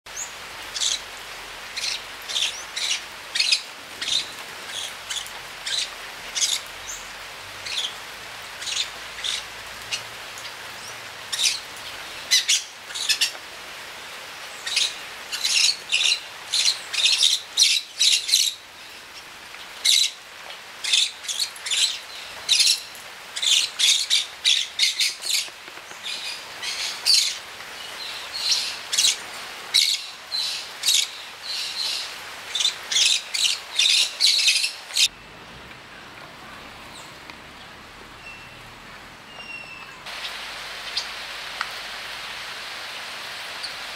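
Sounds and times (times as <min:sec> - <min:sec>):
small birds chirping: 0:00.1 - 0:13.5, 0:14.4 - 0:35.2, 0:36.0 - 0:41.2.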